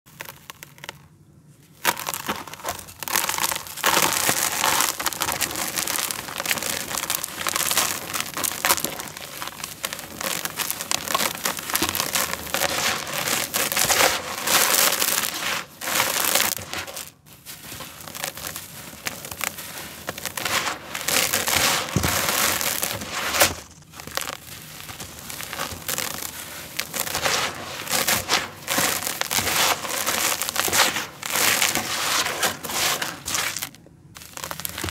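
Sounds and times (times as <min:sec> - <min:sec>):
hands crunching dry dirt: 0:00.1 - 0:34.9.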